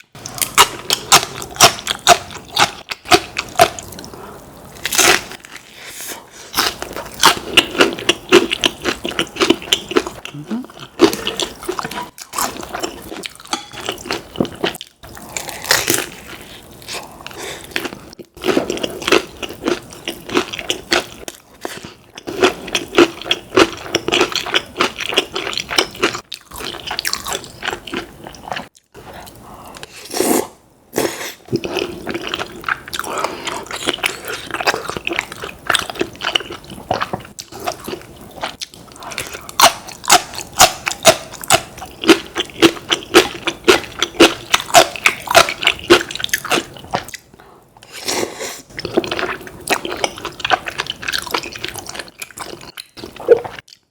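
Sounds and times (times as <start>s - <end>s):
wet chewing of food: 0.1s - 5.8s, 6.5s - 30.2s, 31.0s - 53.9s.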